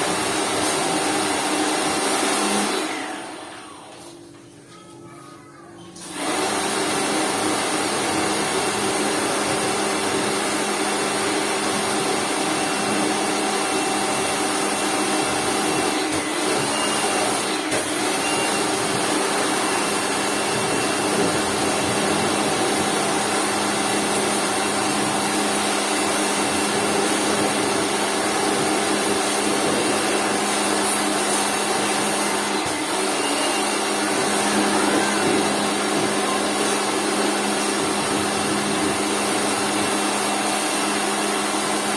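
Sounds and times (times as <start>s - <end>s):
pressure washer motor humming: 0.0s - 4.0s, 6.0s - 41.9s.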